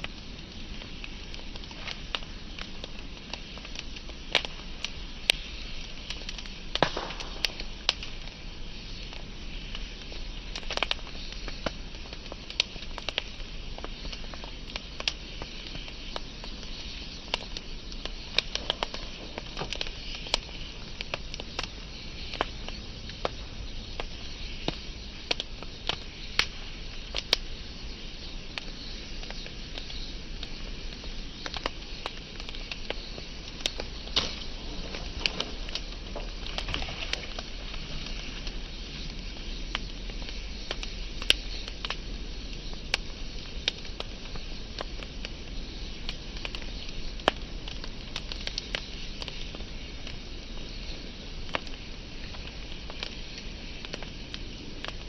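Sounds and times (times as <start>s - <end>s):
fire crackling and popping: 0.0s - 55.0s
fire hissing: 0.0s - 55.0s.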